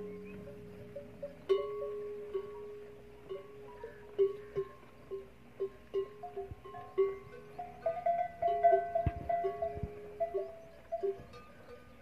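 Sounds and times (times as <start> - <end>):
camel bells clanking: 0.0 - 12.0.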